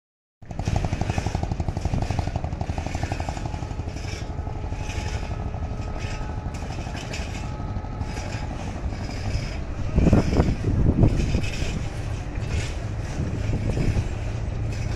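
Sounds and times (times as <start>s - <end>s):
diesel locomotive engine rumbling: 0.4s - 14.9s.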